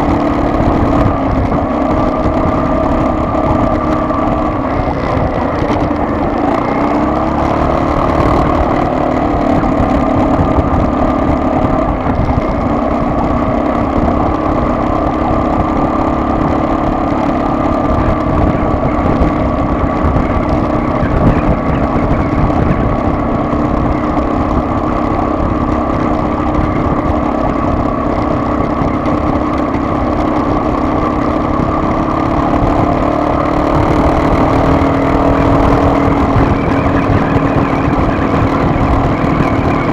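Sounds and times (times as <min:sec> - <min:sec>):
car engine running: 0:00.0 - 0:39.9
road rumble: 0:00.0 - 0:39.9.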